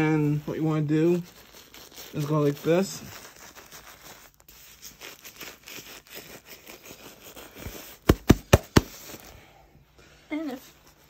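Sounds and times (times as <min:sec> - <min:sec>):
plastic diaper rustling: 0:00.0 - 0:09.3.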